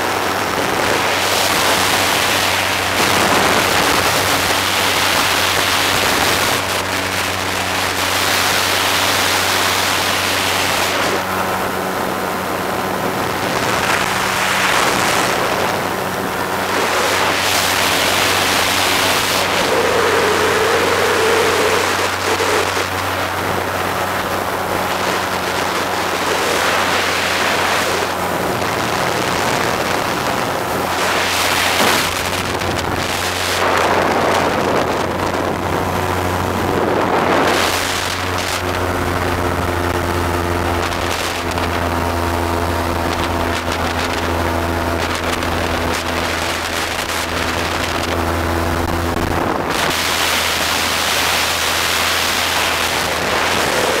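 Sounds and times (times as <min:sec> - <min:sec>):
motorboat engine droning: 0:00.0 - 0:54.0
wind buffeting microphone: 0:00.0 - 0:54.0.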